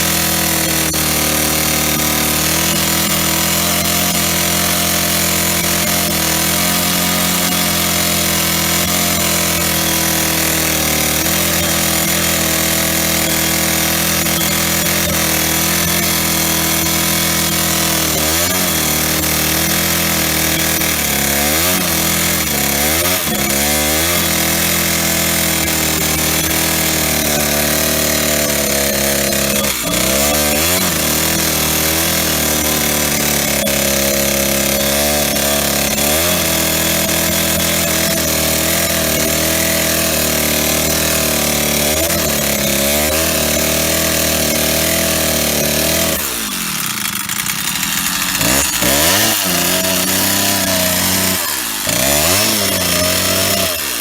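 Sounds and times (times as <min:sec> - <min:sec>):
chainsaw running at high revs: 0:00.0 - 0:54.0.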